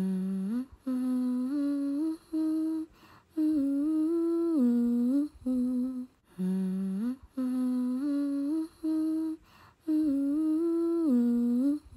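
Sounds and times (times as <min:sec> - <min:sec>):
person humming a slow melody: 0:00.0 - 0:11.9.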